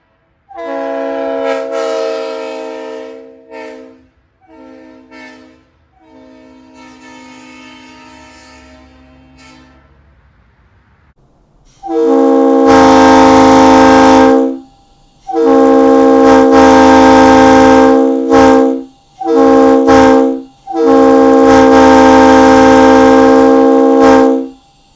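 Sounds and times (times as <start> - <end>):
locomotive air horn chord: 0.0 - 10.1, 11.8 - 24.7.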